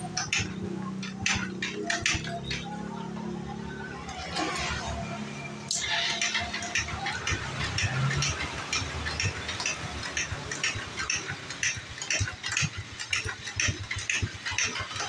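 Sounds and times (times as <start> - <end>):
metallic clicks of engine gears: 0.0 - 2.8, 5.7 - 15.0.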